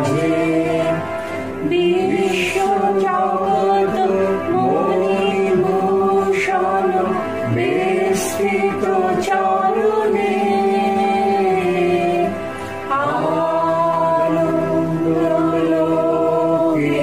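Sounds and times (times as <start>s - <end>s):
group of people singing slowly: 0.0s - 17.0s.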